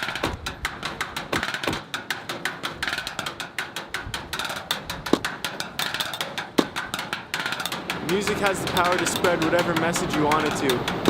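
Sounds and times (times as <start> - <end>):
deeper knocks: 0.0 - 11.0
rapid clicking taps: 0.0 - 11.0.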